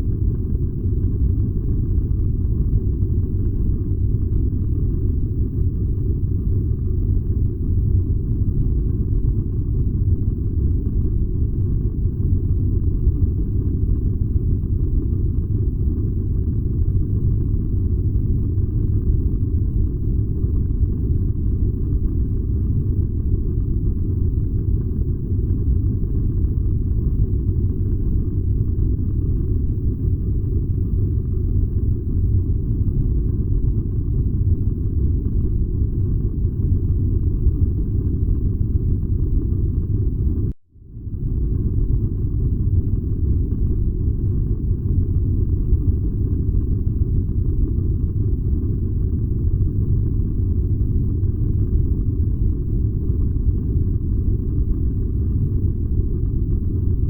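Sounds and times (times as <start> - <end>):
furnace low rumble: 0.0 - 57.0.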